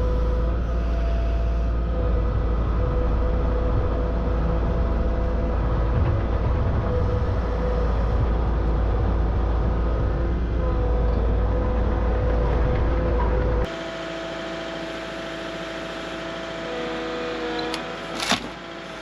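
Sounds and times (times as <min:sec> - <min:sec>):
large engine rumbling: 0:00.0 - 0:19.0.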